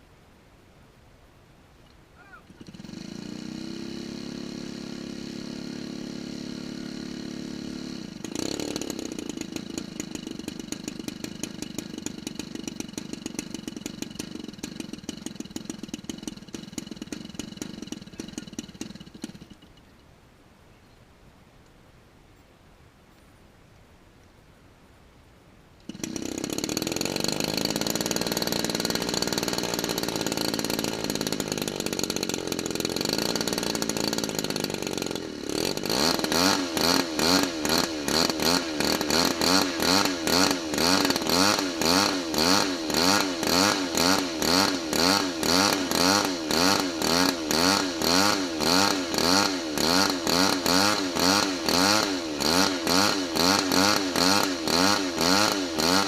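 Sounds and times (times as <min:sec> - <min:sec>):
model plane engine and propeller: 0:02.4 - 0:19.9, 0:26.0 - 0:56.0.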